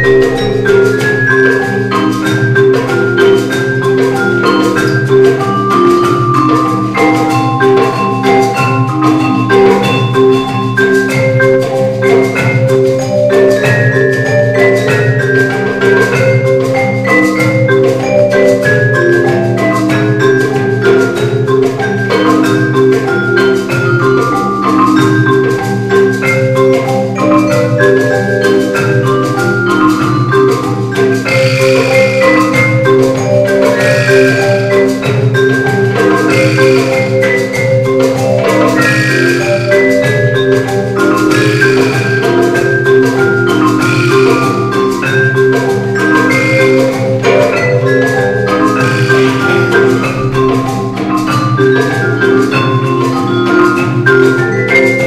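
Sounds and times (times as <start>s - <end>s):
gourd shaker: 0.0s - 55.0s
hand drum: 0.0s - 55.0s
marimba and vibraphone notes: 0.0s - 55.0s.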